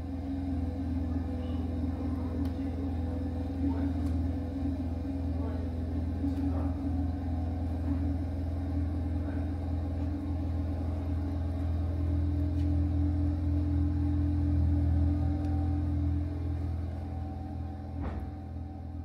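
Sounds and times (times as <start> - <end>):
low droning music chord: 0.0 - 19.0.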